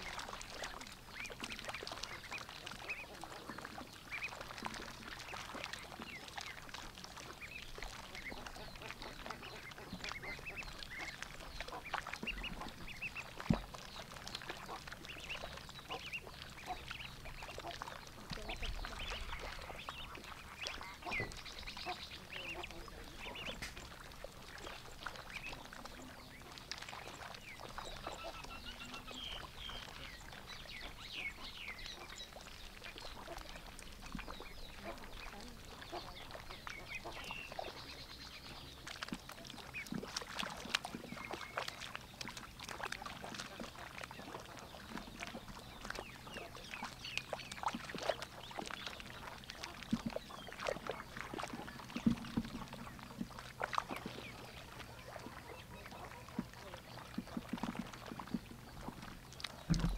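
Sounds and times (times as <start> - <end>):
duck bills dabbling in water: 0.0 - 59.9
ducks quacking: 0.0 - 59.9.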